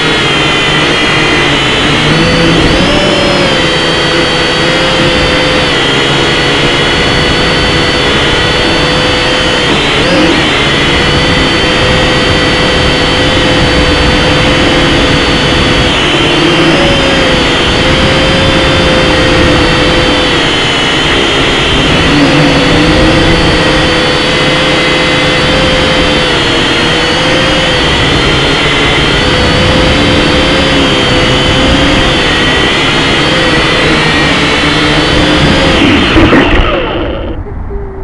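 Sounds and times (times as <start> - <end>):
aircraft engine running loudly: 0.0 - 38.0.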